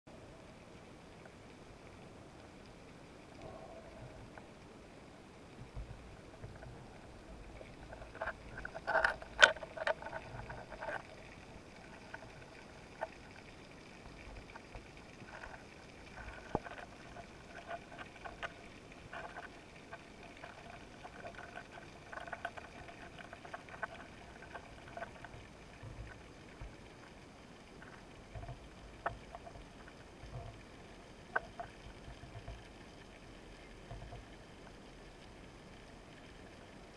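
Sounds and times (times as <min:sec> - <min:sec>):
faint underwater hiss: 0:00.1 - 0:36.9.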